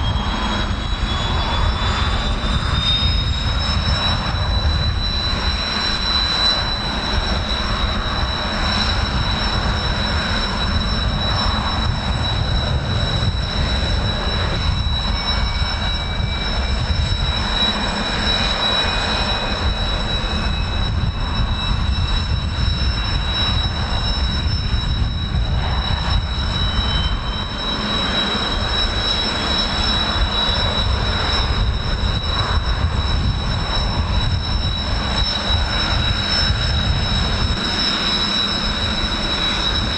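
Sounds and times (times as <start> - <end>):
jet engines whining and rumbling: 0.0 - 39.9.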